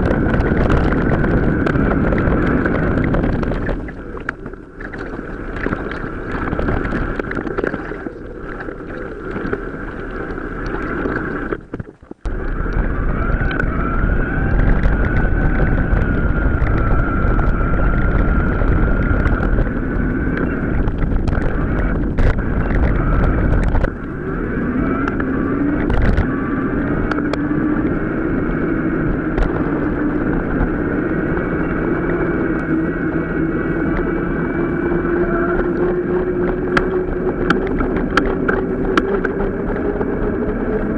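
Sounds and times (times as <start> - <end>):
bike rattling and clicking: 0.0 - 40.9
steady whine: 0.0 - 40.9
wind buffeting microphone: 0.0 - 40.9.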